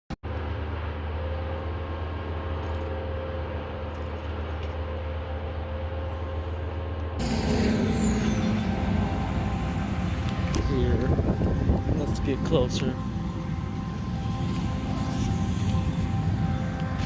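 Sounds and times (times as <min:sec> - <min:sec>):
large machine engine droning: 0:00.2 - 0:17.0.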